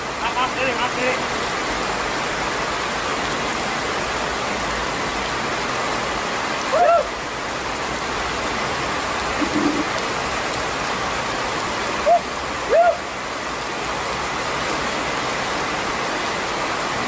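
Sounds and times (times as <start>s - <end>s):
rain falling on water: 0.0s - 17.0s.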